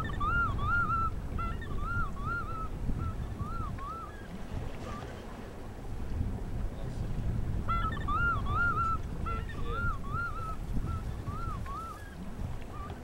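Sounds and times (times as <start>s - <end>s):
bird calling: 0.0s - 5.4s, 7.7s - 13.0s.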